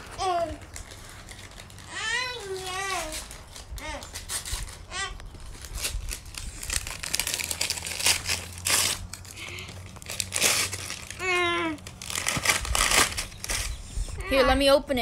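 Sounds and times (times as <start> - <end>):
wrapping paper tearing and rustling: 0.0 - 13.9.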